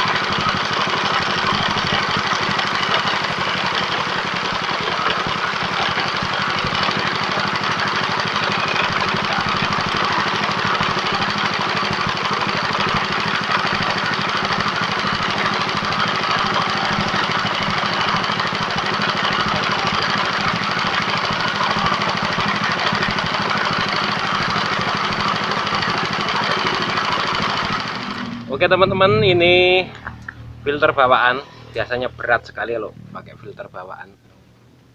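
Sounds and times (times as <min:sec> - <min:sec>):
small engine running: 0:00.0 - 0:34.1.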